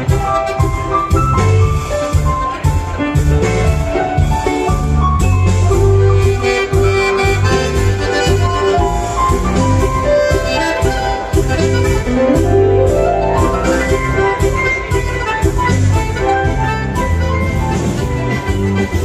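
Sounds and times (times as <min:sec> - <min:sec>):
button accordion playing dance tune: 0:00.0 - 0:19.0
pulsing bass backing: 0:00.0 - 0:19.0.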